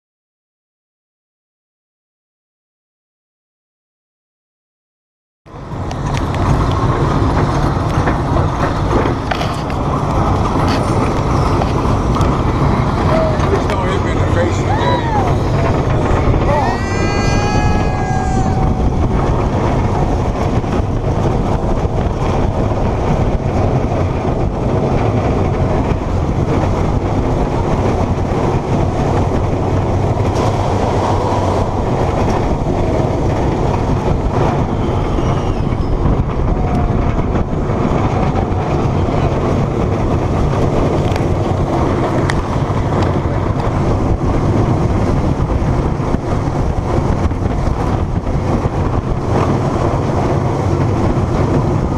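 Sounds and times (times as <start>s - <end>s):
coaster wheels rumbling on track: 5.5s - 51.9s
rushing wind: 5.5s - 51.9s.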